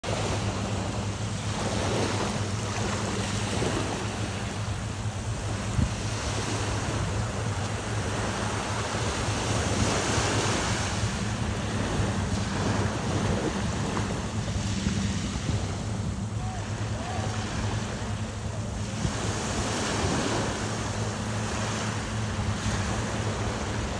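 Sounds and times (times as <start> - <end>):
low hum: 0.0 - 23.9
waves washing onto beach: 0.0 - 23.9
wind on microphone: 0.0 - 23.9.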